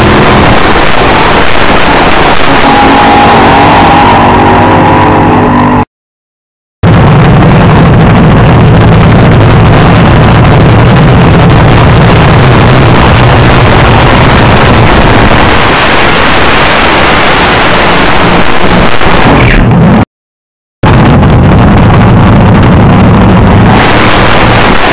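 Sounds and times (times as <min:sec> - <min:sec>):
drag car engine roaring: 0:00.0 - 0:05.8, 0:06.8 - 0:20.0, 0:20.8 - 0:24.9.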